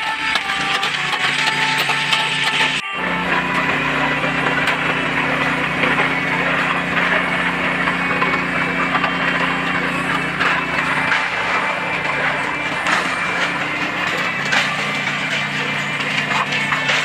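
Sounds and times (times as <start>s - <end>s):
noisy rattle: 0.0s - 17.0s
small engine running: 0.0s - 17.0s.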